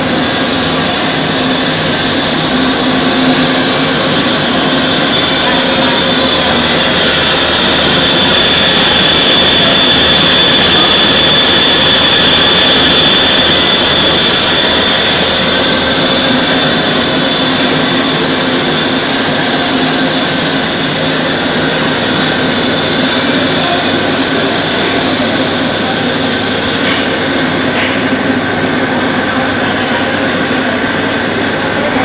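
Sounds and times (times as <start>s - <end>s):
high whine: 0.0s - 32.0s
lathe mechanical drone: 0.0s - 32.0s.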